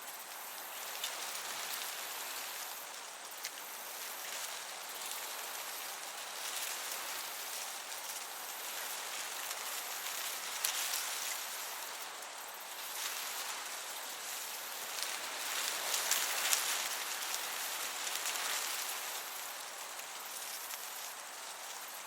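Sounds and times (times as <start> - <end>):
breeze over grass: 0.0 - 22.0
crickets chirping: 0.0 - 22.0.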